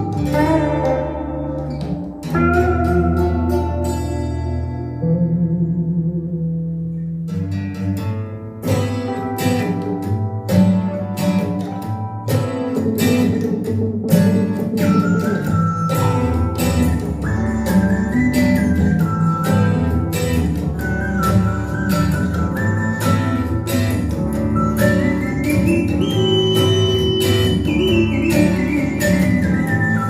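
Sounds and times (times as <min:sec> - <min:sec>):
pop music with guitar: 0:00.0 - 0:30.0.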